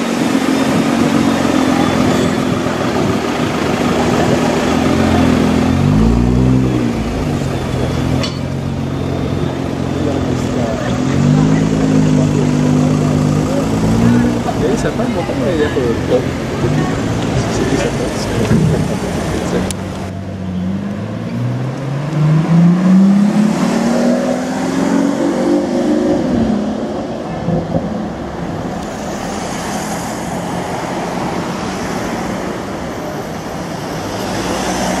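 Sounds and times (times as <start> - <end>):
car engine accelerating: 0.0 - 35.0
street traffic noise: 0.0 - 35.0.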